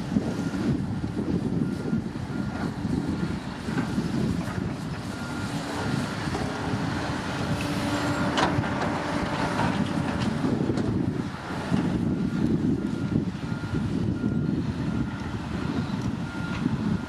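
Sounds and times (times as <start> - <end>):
bulldozer diesel engine rumbling: 0.0 - 17.0.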